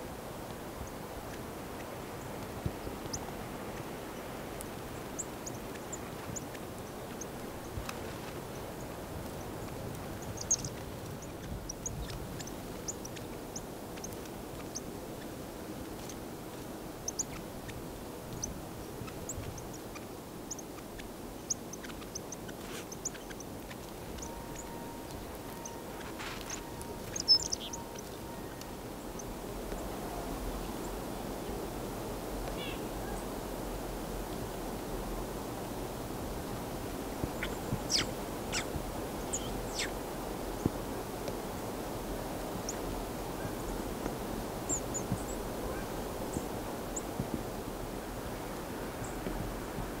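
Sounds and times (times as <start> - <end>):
low background hiss: 0.0 - 50.0
songbirds chip notes: 0.4 - 31.6, 36.4 - 41.4, 42.0 - 47.2.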